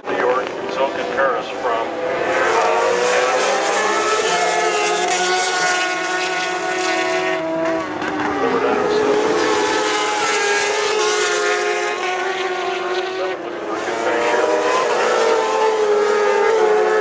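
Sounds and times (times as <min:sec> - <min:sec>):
motorcycle engines racing past: 0:00.0 - 0:17.0.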